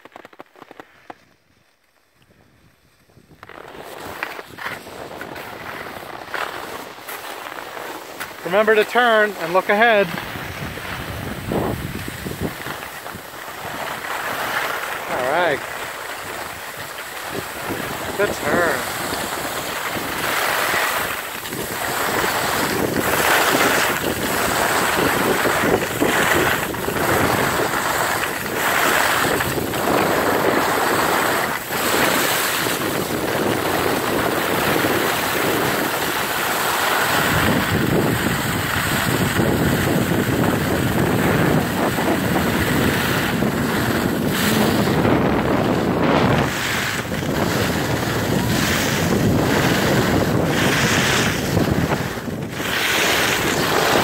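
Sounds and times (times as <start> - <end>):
skis sliding on packed snow: 0.0 - 54.0
wind rushing over microphone: 2.3 - 54.0.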